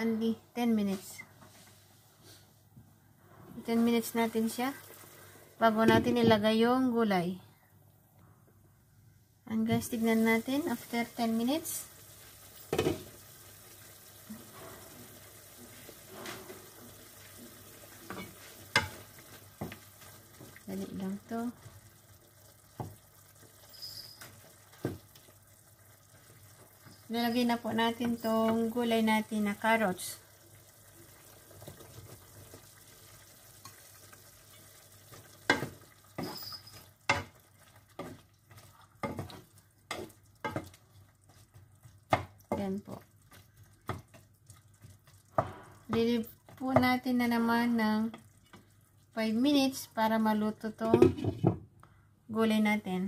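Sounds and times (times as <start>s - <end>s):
food simmering and bubbling in pan: 1.4s - 6.0s, 9.7s - 51.7s.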